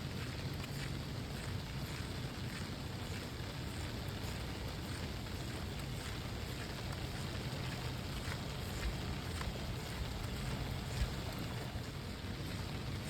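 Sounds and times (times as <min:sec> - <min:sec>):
raindrop ticks: 0:00.2 - 0:12.7
steady rain hiss: 0:01.6 - 0:13.0.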